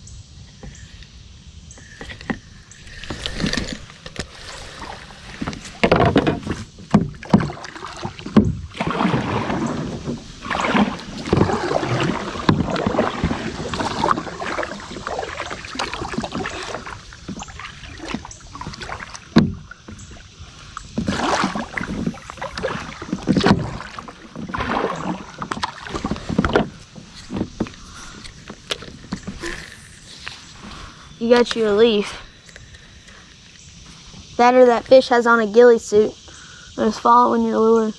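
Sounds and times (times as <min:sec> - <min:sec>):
paddle strokes splashing water: 0:01.8 - 0:34.4.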